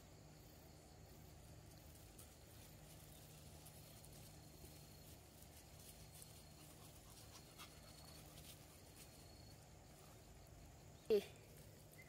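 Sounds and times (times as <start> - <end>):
faint clicks of dogs eating: 1.2 - 10.7, 11.4 - 12.0.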